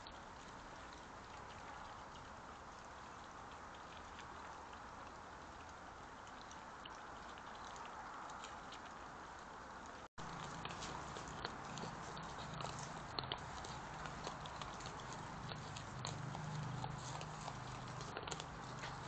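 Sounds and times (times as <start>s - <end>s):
animals chewing and snuffling in grass: 0.0s - 19.0s.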